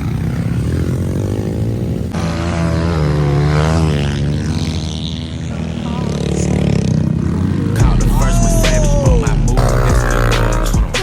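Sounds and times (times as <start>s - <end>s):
pit bike engines revving: 0.0s - 11.0s.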